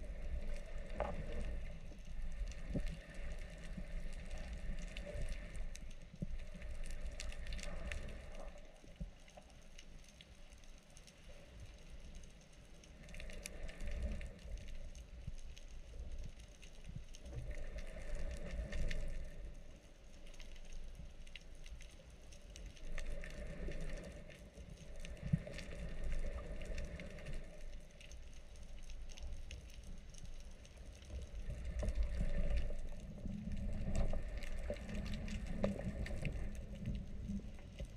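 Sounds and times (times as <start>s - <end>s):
muffled underwater rumble: 0.0s - 37.9s.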